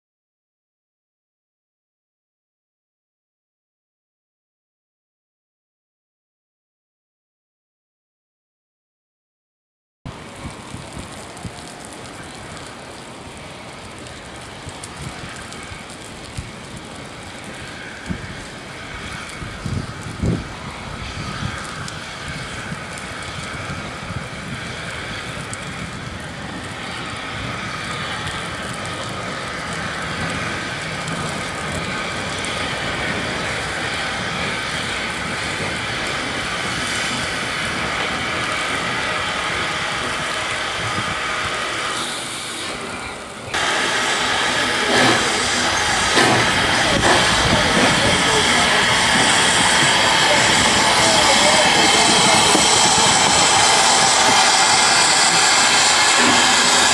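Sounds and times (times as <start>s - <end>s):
steam locomotive hissing and running: 10.1s - 56.9s.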